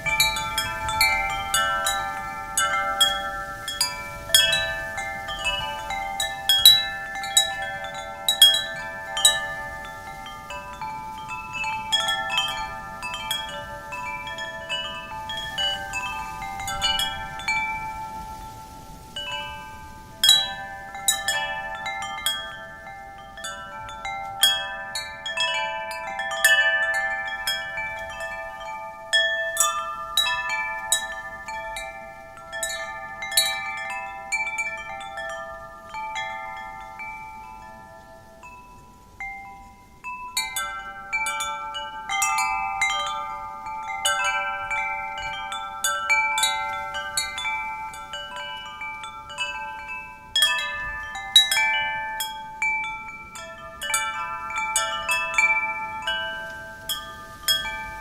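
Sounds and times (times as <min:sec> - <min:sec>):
faint wind hiss: 0:00.0 - 0:58.0
wind chimes ringing: 0:00.0 - 0:58.0.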